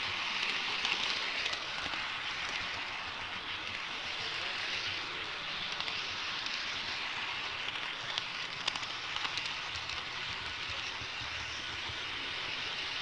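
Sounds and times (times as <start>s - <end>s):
model train wheels rattling on rail: 0.0s - 13.0s.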